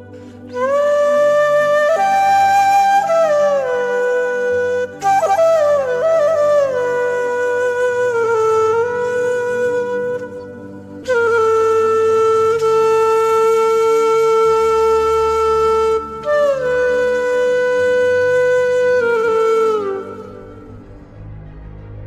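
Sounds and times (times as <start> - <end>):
wind instrument long held notes: 0.0 - 21.8.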